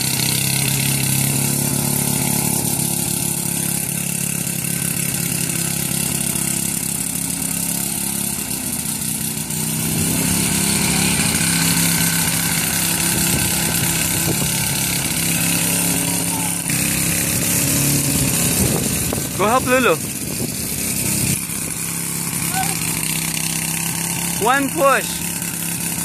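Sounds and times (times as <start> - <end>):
push lawn mower engine running: 0.0 - 26.0.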